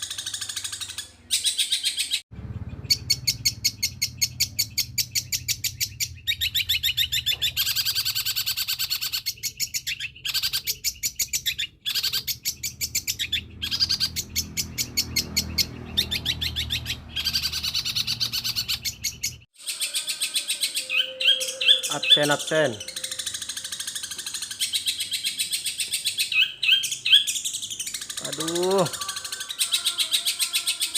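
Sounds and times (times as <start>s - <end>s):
shrike chattering song: 0.0s - 30.9s.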